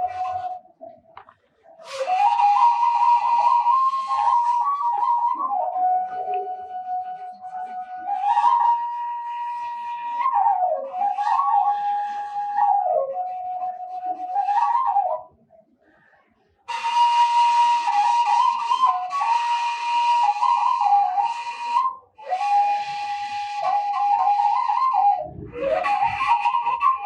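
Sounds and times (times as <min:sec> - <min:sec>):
breathy bamboo flute melody: 0:00.0 - 0:15.6, 0:16.6 - 0:27.0.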